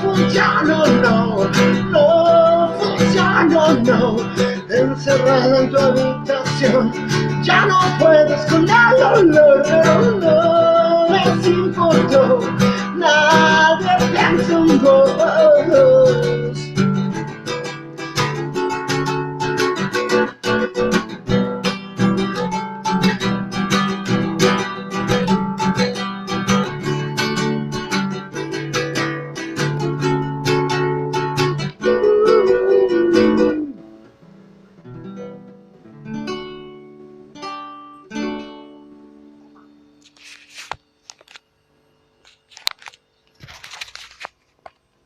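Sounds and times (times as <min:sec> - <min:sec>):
acoustic guitar strummed chords: 0:00.0 - 0:41.1.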